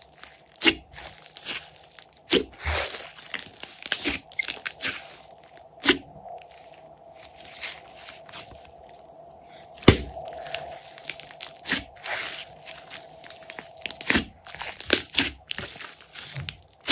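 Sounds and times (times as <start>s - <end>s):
slime squishing and popping: 0.0s - 6.8s, 9.8s - 16.9s.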